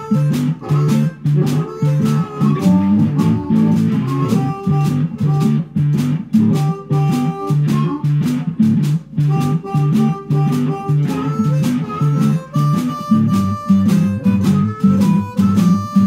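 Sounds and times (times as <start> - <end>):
drum kit beat: 0.0 - 16.0
guitar riff: 0.0 - 16.0.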